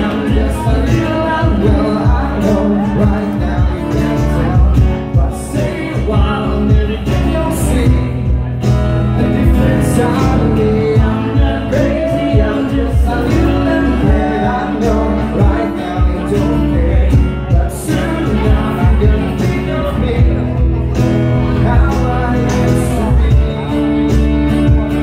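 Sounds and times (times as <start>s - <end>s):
man singing: 0.0s - 25.0s
percussion: 0.0s - 25.0s
strummed acoustic guitars: 0.0s - 25.0s.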